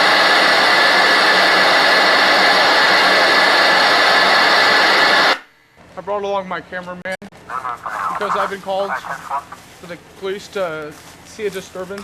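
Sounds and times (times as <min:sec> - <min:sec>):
loud steady hissing: 0:00.0 - 0:05.7, 0:07.4 - 0:12.0.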